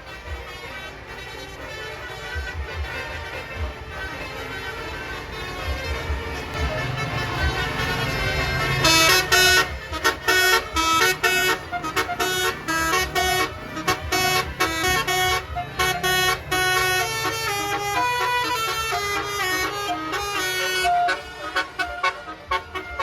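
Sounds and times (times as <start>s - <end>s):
bus engine running: 0.0s - 23.0s
bus horn playing melody: 0.0s - 23.0s.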